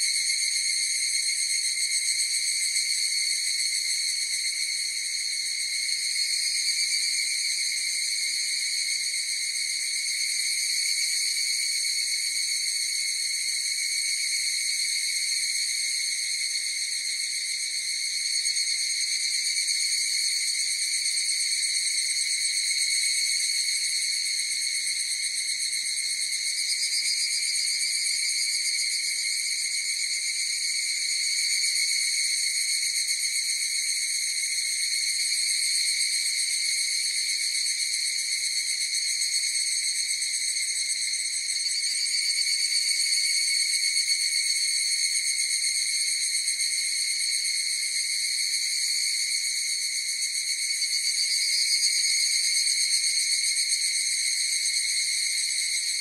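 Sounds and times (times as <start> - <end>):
cicadas chorus ringing drone: 0.0 - 56.0.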